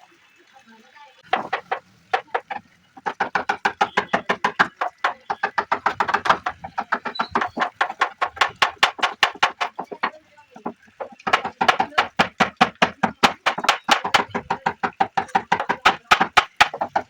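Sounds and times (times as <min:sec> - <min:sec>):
hand tool knocking on wood: 0:01.3 - 0:17.0.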